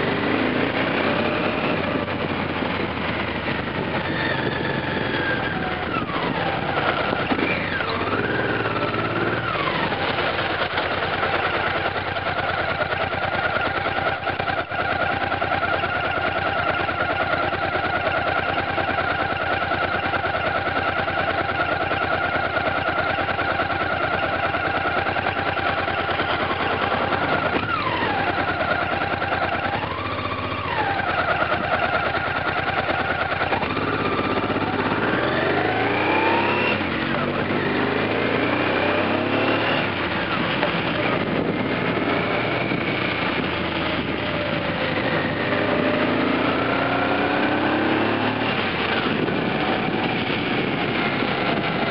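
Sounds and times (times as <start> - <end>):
motorcycle engine: 0.0 - 51.9
road and wind noise: 0.0 - 51.9.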